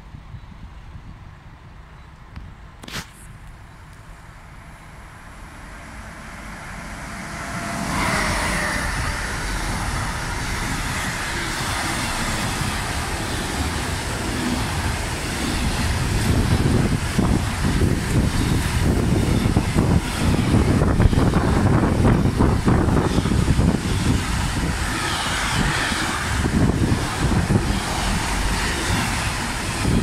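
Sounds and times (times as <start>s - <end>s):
electric locomotive passing: 3.6s - 30.0s
train wheels on rails rumbling: 3.6s - 30.0s.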